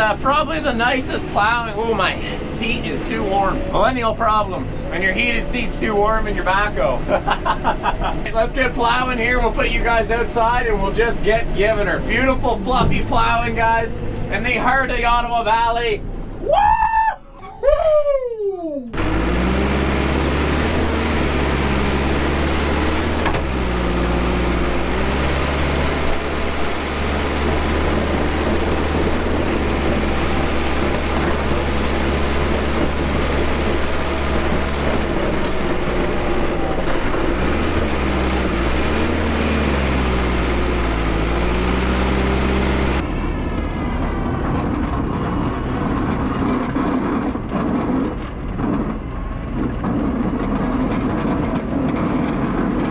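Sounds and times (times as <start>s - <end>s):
diesel backhoe engine working: 0.0s - 14.5s, 18.9s - 52.8s.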